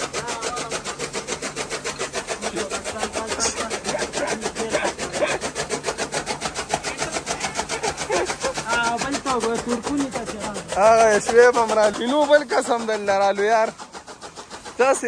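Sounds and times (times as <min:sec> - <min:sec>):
chaff cutter chopping fodder: 0:00.0 - 0:15.0.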